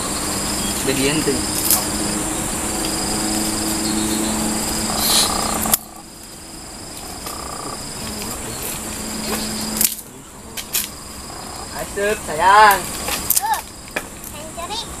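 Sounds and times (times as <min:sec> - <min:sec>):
high-pitched insect buzzing: 0:00.0 - 0:10.1, 0:10.7 - 0:14.8.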